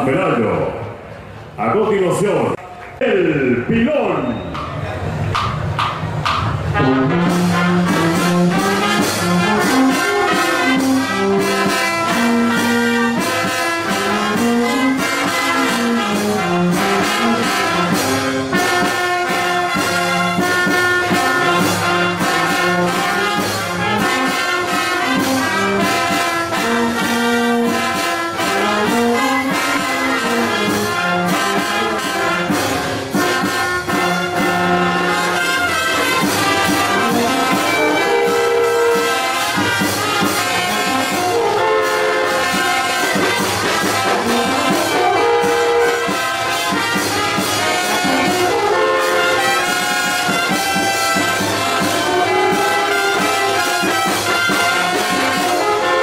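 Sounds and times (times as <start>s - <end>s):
brass band playing: 3.6s - 56.0s
steady drum beat: 4.5s - 56.0s.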